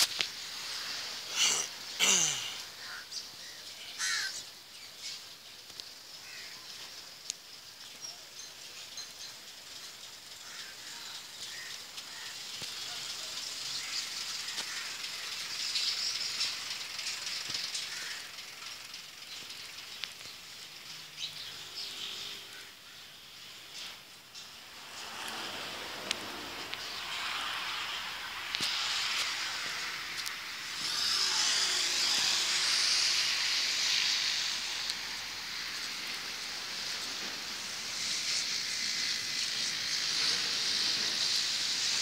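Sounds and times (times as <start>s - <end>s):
harsh bird calls: 0.4s - 5.4s, 7.8s - 42.0s.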